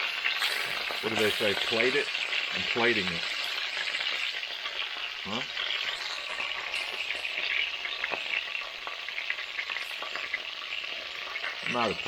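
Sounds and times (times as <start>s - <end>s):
frying oil sizzling: 0.0s - 12.0s.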